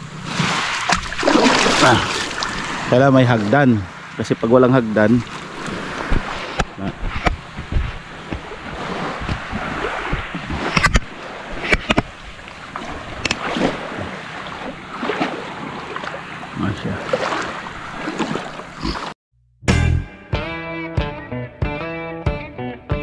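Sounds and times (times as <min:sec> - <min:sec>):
sea water sloshing and splashing: 0:00.0 - 0:19.2.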